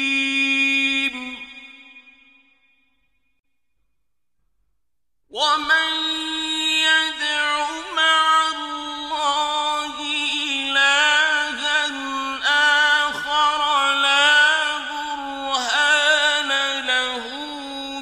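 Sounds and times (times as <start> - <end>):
man chanting melodically: 0.0 - 2.4, 5.3 - 18.0.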